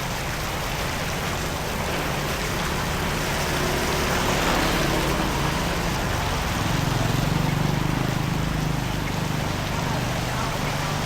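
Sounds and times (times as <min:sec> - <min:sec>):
floodwater rushing: 0:00.0 - 0:11.0
rain: 0:00.0 - 0:11.0.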